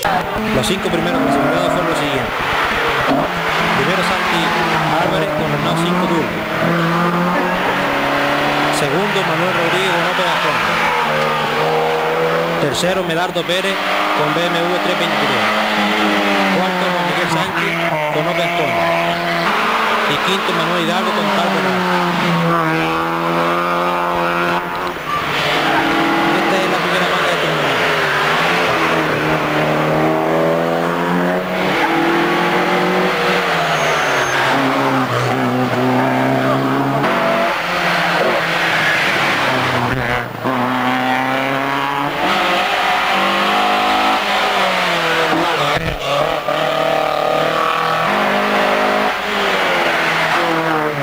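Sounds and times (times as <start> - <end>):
rally car engines revving: 0.0 - 51.0.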